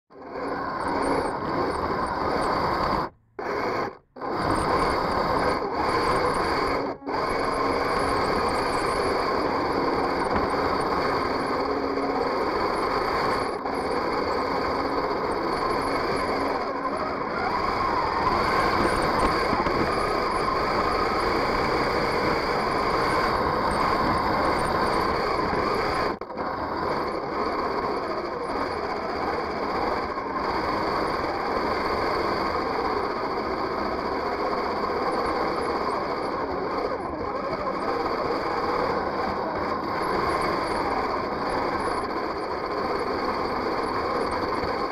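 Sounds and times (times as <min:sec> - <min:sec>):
electric motors and gears whining: 0:00.1 - 0:44.9.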